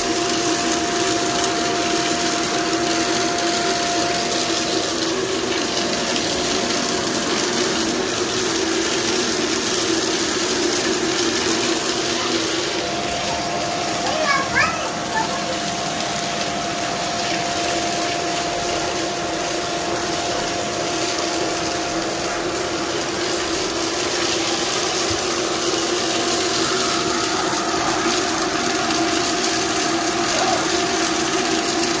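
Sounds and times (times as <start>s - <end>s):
vacuum cleaner running: 0.0s - 32.0s.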